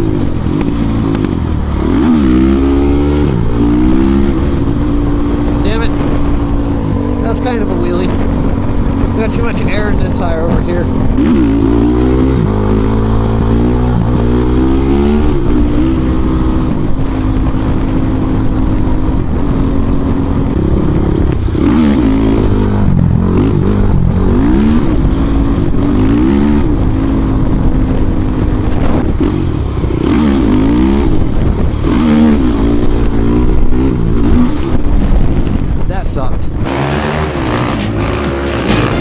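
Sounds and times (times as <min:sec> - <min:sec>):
quad bike engine revving: 0:00.0 - 0:39.0.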